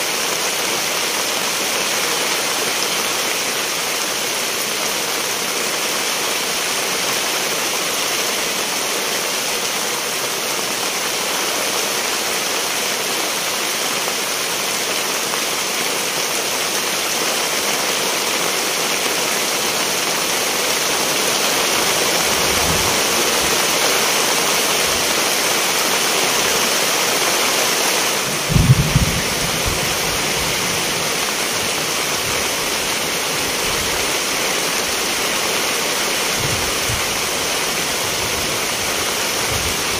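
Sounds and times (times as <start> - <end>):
rush of heavy water: 0.0 - 39.9.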